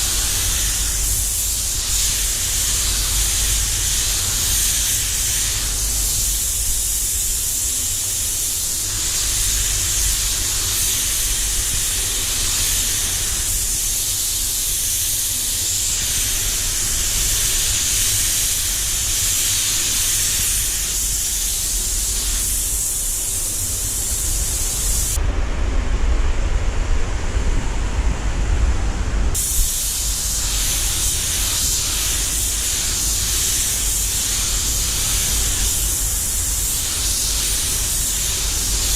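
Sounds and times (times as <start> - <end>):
spray gun hissing: 0.0 - 25.2, 29.4 - 38.9
low rumble of air system: 0.0 - 38.9.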